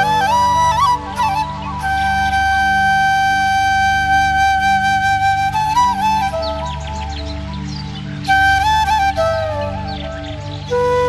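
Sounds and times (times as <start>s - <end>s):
flute-like melody: 0.0s - 11.0s
low sustained pad: 0.0s - 11.0s.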